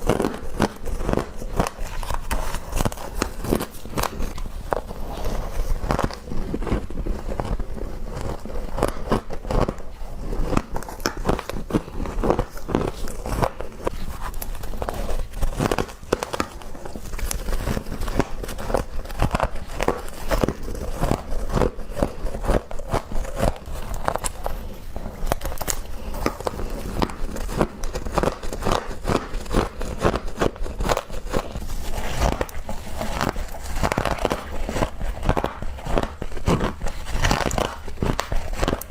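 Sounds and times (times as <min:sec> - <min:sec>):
crunching frost being chewed: 0:00.0 - 0:38.9.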